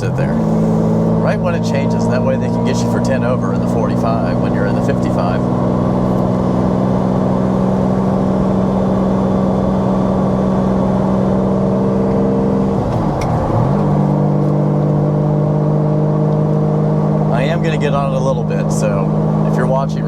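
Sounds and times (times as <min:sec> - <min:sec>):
car engine cruising: 0:00.0 - 0:20.0.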